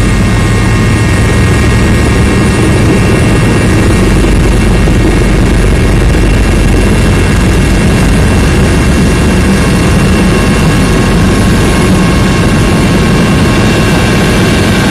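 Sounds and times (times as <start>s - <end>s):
helicopter cabin drone: 0.0s - 14.9s
high whine: 0.0s - 14.9s.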